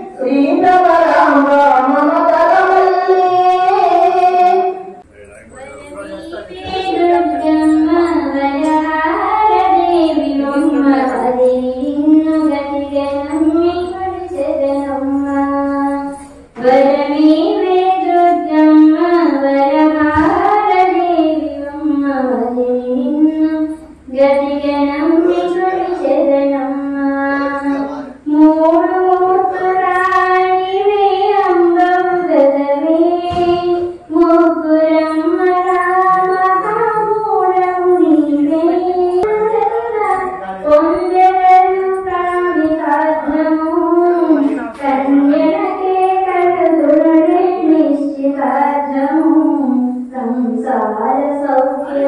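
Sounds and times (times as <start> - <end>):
high voice singing lullaby: 5.6 - 52.0.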